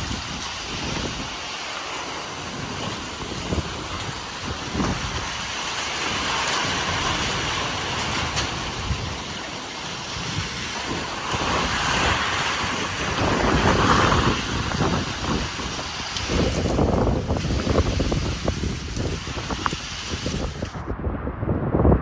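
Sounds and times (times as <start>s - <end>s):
strong wind gusting on microphone: 0.0s - 22.0s.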